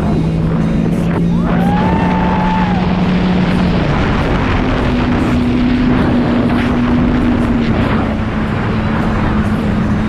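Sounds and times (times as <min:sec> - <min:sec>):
jet ski engine running: 0:00.0 - 0:10.0
wind and water noise: 0:00.0 - 0:10.0.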